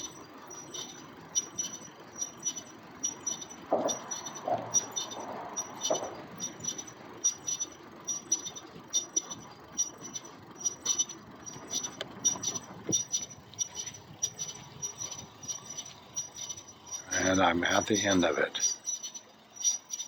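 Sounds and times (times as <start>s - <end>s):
electric trike rolling: 0.0s - 20.0s
faint high squeak: 0.0s - 20.0s.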